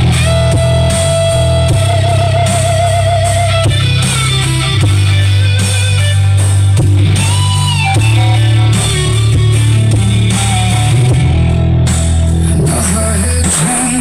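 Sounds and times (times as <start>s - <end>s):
heavy bass line: 0.0s - 14.0s
loud rock music with guitar: 0.0s - 14.0s.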